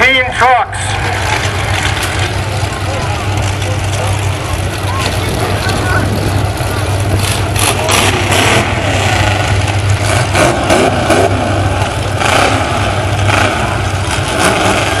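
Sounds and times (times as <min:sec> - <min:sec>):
truck engines rumbling and revving: 0:00.0 - 0:15.0.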